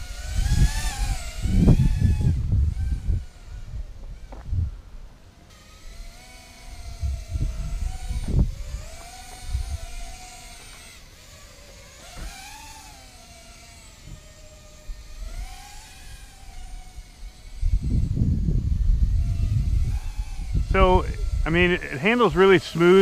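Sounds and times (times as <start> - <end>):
wind rumbling on microphone: 0.0 - 5.1, 5.9 - 11.5, 14.0 - 23.0
quadcopter motors whining: 0.0 - 23.0.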